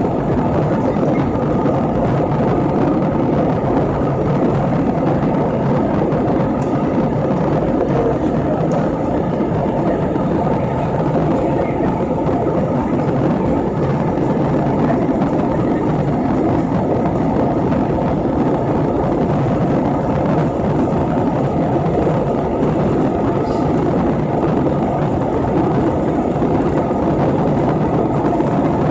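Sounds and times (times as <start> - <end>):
airliner cabin rushing noise: 0.0 - 28.9.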